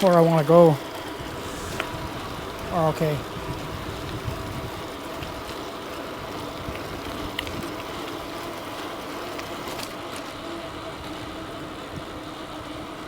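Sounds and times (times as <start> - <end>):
e-bike rolling along street: 0.0 - 13.0
faint motor hum: 0.0 - 13.0.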